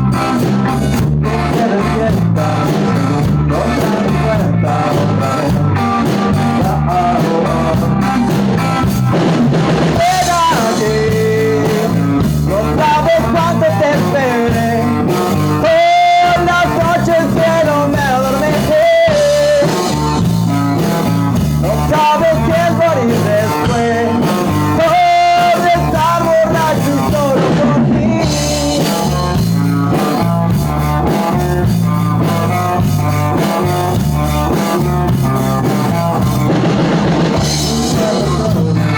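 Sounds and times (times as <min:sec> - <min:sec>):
rock song with singing: 0:00.0 - 0:38.9.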